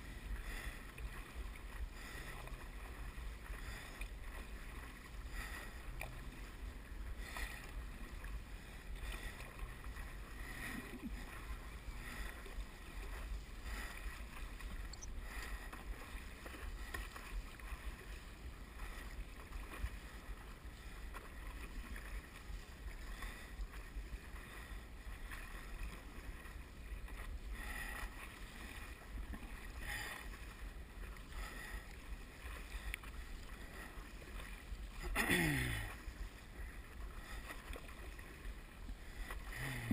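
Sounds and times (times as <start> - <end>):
paddle strokes splashing: 0.0 - 39.9.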